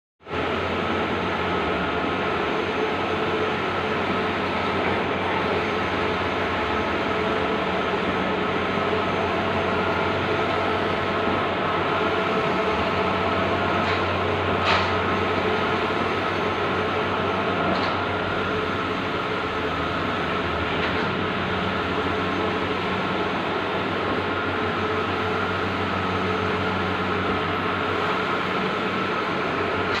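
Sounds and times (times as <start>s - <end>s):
printer whirring and humming: 0.3s - 30.0s.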